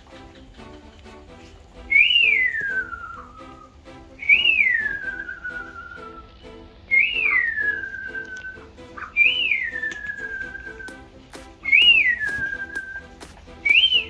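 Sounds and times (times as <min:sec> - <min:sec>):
soft background music: 0:00.0 - 0:14.0
chicks whistling calls: 0:01.8 - 0:14.0.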